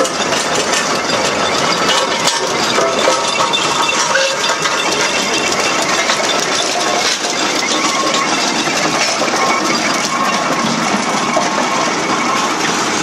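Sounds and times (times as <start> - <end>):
fast metallic engine clatter: 0.0 - 13.0.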